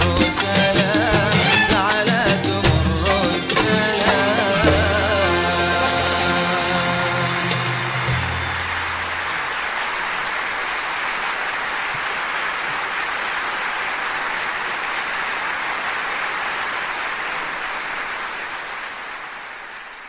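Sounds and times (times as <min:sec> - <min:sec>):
audience applauding: 0:03.4 - 0:20.0.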